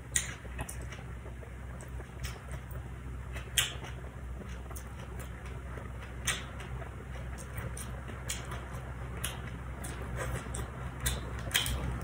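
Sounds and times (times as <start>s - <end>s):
crunchy chewing: 0.0s - 12.0s
steady low hum: 0.0s - 12.0s.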